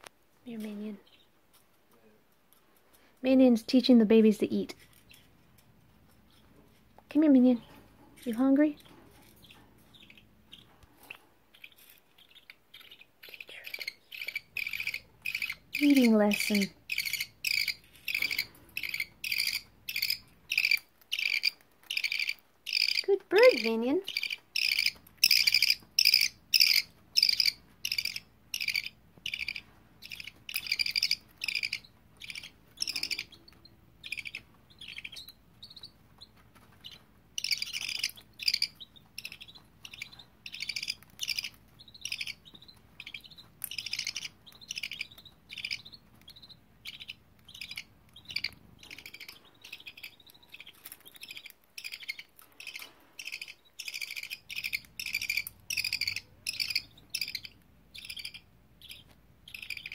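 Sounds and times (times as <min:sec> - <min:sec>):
budgerigars chirping: 0:08.7 - 0:59.9.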